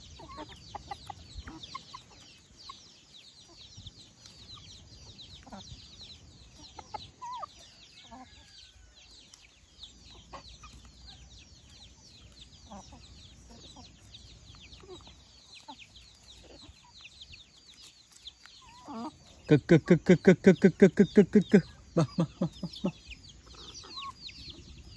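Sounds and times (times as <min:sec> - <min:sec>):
chicks peeping: 0:00.0 - 0:24.9
hens clucking: 0:00.0 - 0:24.9.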